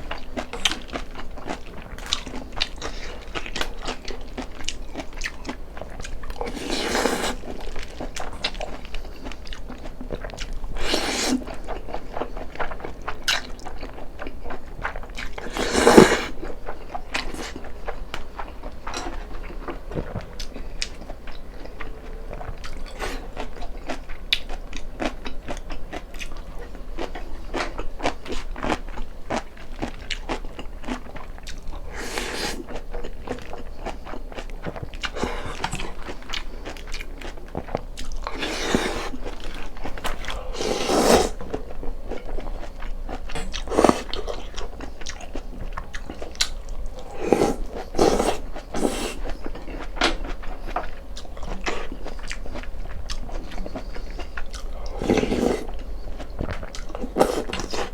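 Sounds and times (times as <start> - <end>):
crunchy chewing: 0.0 - 57.9.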